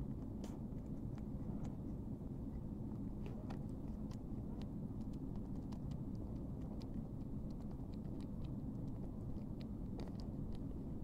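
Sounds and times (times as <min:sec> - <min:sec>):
cat licking and nibbling fur: 0:00.0 - 0:11.0
low steady rumble: 0:00.0 - 0:11.0.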